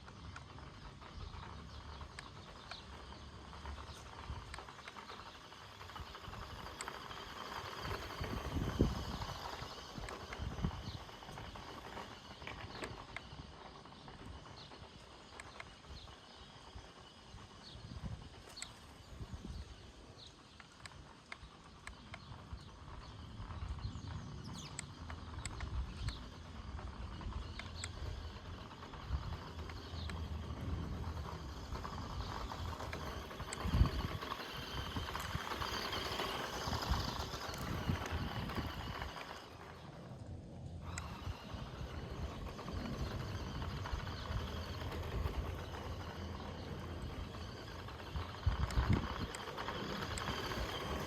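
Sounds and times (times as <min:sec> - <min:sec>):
tyres crackling on loose grit: 0:00.0 - 0:51.0.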